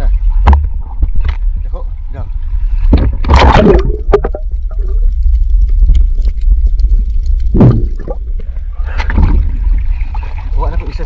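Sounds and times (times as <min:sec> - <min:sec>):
underwater rumble of moving water: 0:00.0 - 0:11.0.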